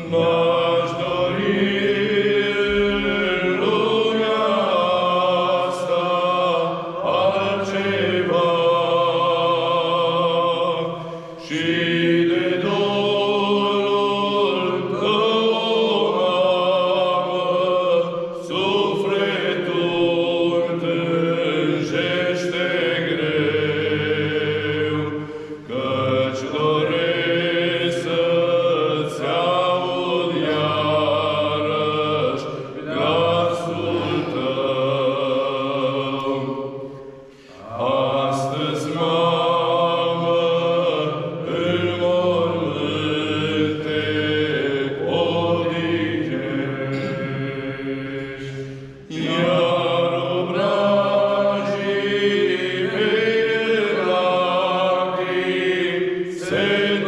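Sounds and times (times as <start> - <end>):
men chanting a hymn: 0.0 - 57.0.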